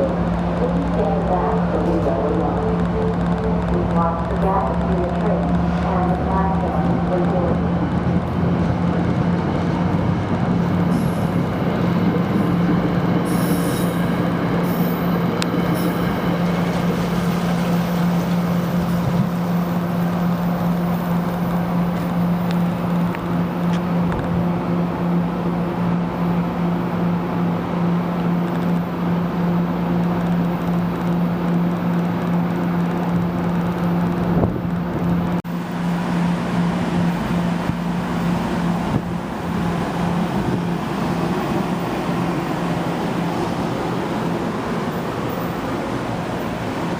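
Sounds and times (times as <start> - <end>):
train hum: 0.0 - 46.9
wheels rumbling on rails: 0.0 - 46.9.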